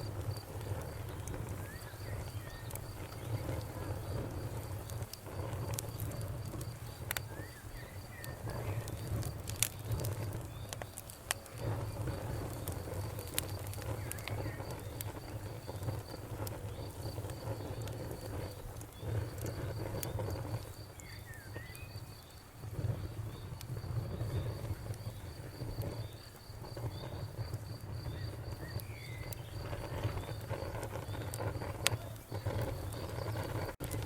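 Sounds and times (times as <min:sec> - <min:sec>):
insects chirping: 0:00.0 - 0:34.0
wood fire crackling: 0:00.0 - 0:34.0.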